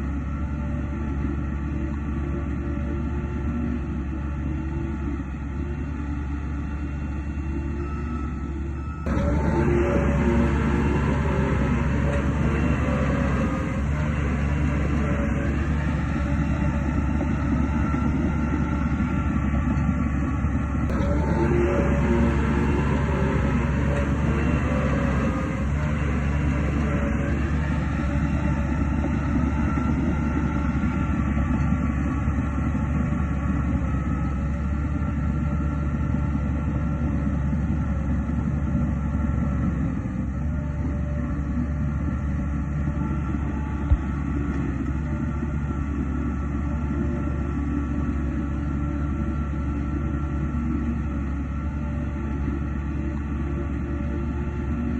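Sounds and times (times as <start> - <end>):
bulldozer diesel engine running: 0.0 - 54.9
faint steady tones: 0.0 - 54.9.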